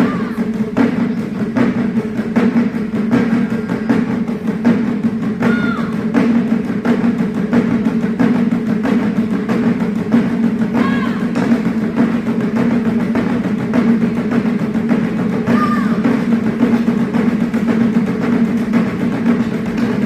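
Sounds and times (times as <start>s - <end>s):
taiko ensemble drumming: 0.0s - 20.0s.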